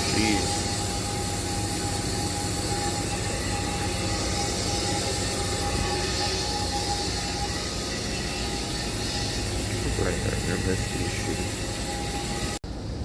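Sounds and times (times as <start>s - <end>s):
steady high tone: 0.0s - 12.7s
condenser fans rushing: 0.0s - 13.0s
low compressor hum: 0.0s - 13.0s.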